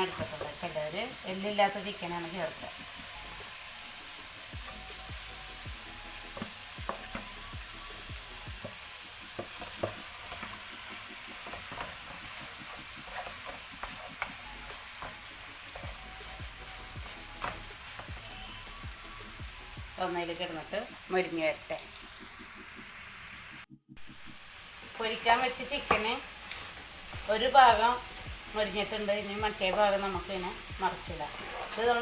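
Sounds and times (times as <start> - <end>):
chicken sizzling in a pan: 0.0 - 32.0.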